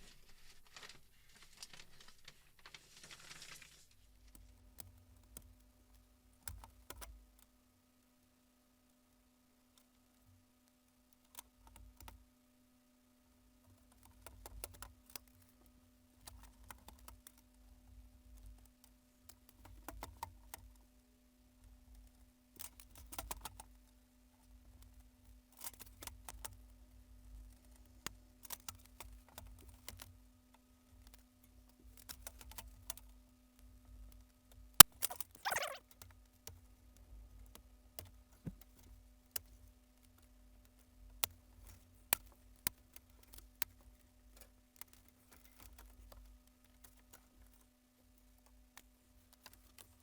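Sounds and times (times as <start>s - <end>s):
faint clicks and light taps: 0.0s - 12.3s, 13.6s - 50.0s.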